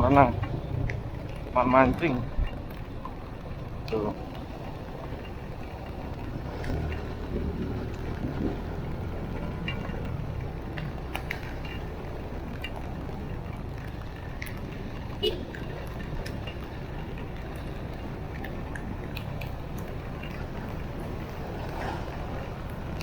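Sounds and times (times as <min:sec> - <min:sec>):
drip-like ticks: 0:00.0 - 0:23.0.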